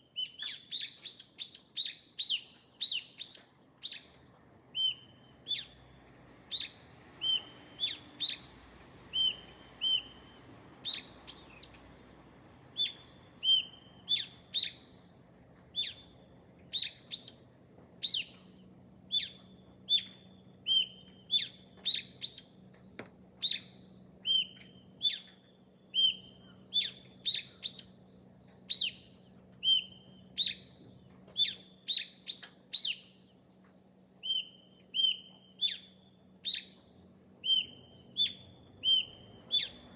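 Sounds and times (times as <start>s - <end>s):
bird chirping: 0.2s - 5.9s, 6.5s - 11.9s, 12.7s - 15.1s, 15.7s - 17.4s, 18.0s - 30.8s, 31.4s - 33.3s, 34.2s - 39.9s.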